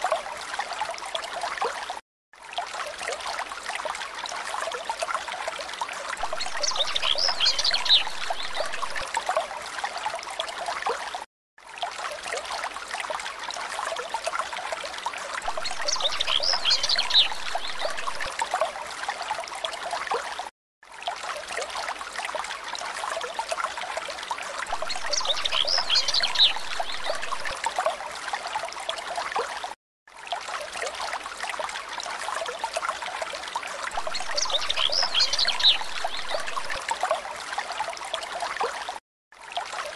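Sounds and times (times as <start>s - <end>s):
trickling stream: 0.0s - 39.9s.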